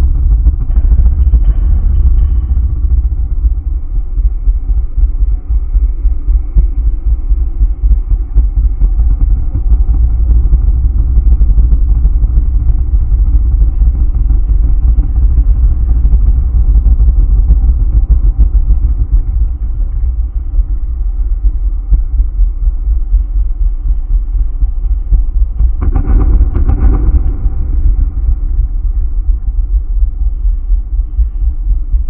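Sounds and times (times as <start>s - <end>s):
ambient drone music: 0.0s - 32.0s.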